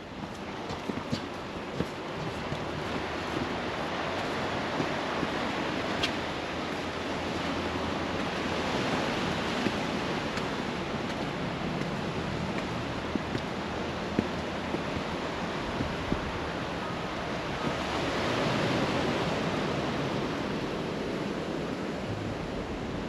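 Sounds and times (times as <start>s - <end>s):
sea waves washing ashore: 0.0s - 23.0s.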